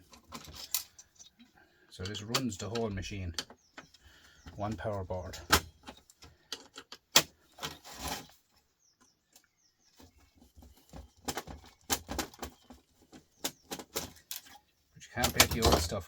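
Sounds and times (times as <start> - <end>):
hand tools clicking and knocking: 0.0 - 8.3, 10.4 - 16.0
metal and plastic parts handled: 0.0 - 8.5, 10.5 - 16.0.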